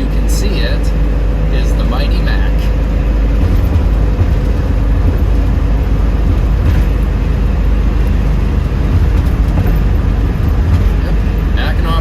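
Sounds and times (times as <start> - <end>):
car engine and road noise rumble: 0.0 - 12.0.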